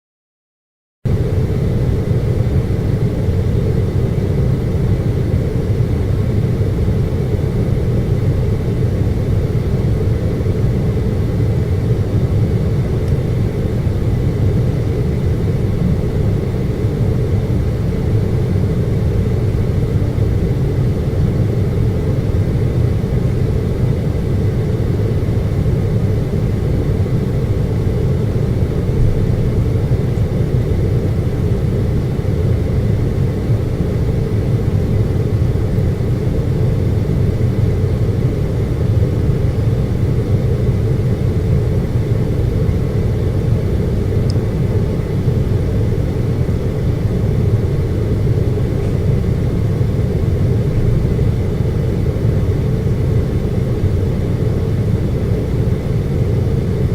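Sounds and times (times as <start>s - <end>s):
air conditioner humming: 1.1s - 56.9s
faint high whine: 1.1s - 56.9s.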